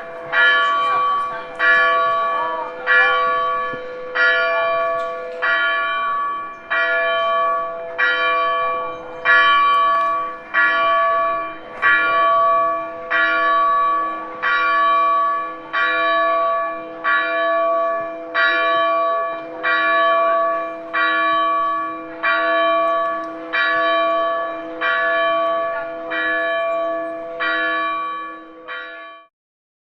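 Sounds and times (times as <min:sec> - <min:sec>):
church bell tolling: 0:00.0 - 0:29.3.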